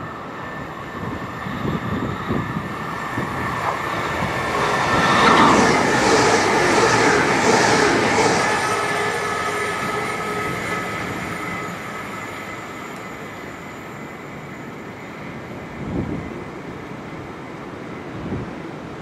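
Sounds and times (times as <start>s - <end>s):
train rumbling past: 0.0s - 18.9s
high wheel squeal: 0.2s - 15.6s.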